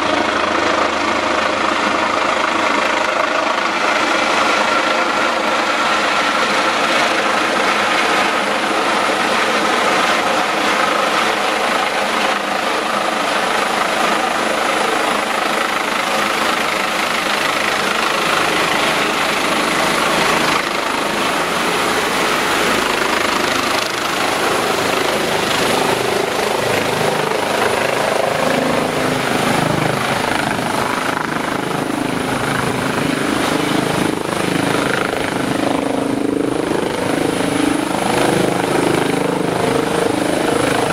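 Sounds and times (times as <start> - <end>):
helicopter rotor noise: 0.0 - 40.9
high turbine whine: 0.0 - 40.9.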